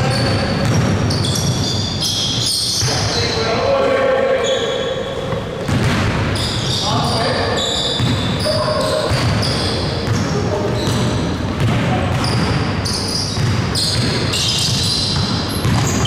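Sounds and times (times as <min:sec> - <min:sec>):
basketball bouncing on court: 0:00.0 - 0:03.2, 0:05.3 - 0:07.2, 0:07.9 - 0:16.0
sneaker squeaks: 0:00.0 - 0:03.6, 0:04.3 - 0:16.0
players' voices: 0:02.7 - 0:15.9.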